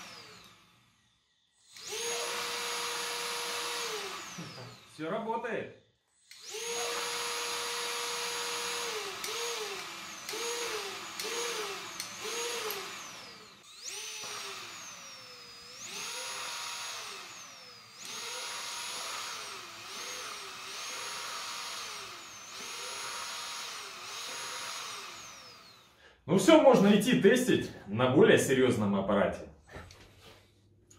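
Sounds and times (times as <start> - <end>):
vacuum motor whining: 0.0 - 5.1, 6.2 - 26.0.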